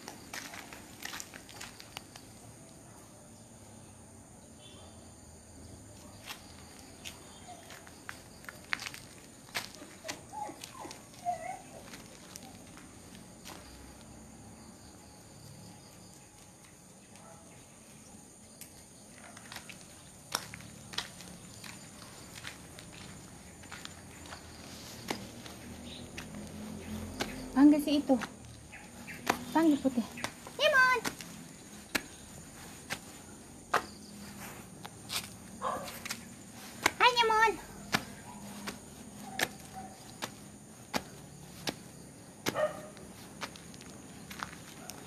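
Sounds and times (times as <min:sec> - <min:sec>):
footsteps on gritty concrete: 0:00.0 - 0:02.4, 0:06.0 - 0:14.7, 0:18.4 - 0:45.0
crickets chirring: 0:00.0 - 0:45.0.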